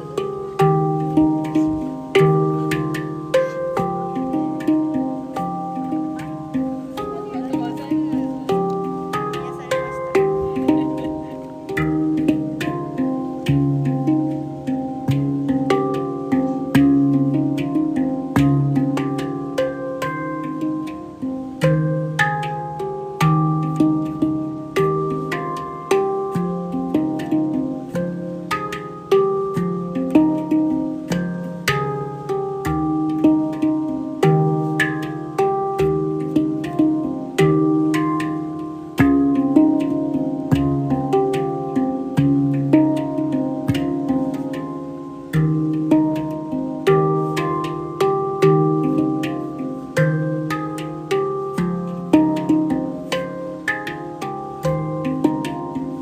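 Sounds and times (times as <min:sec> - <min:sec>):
handpan melody: 0:00.0 - 0:56.0.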